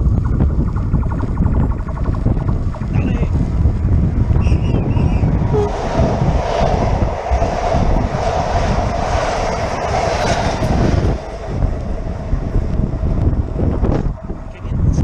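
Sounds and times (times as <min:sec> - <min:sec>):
wind buffeting microphone: 0:00.0 - 0:15.0
electric train passing: 0:00.8 - 0:15.0.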